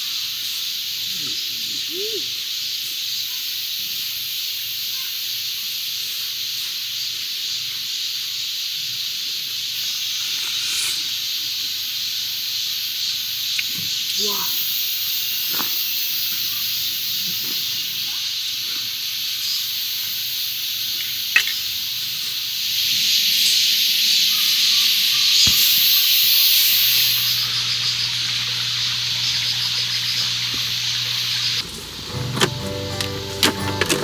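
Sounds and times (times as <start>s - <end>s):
food sizzling on a pan: 0.0s - 32.3s.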